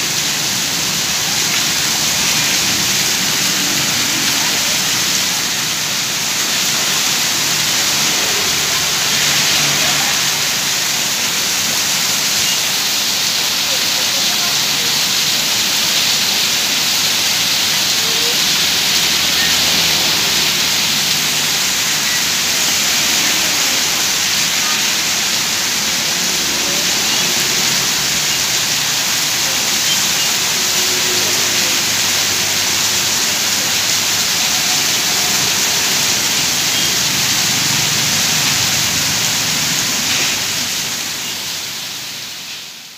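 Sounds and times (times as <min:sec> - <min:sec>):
rain on a flooded street: 0:00.0 - 0:42.9
water pouring off a roof: 0:00.0 - 0:42.9.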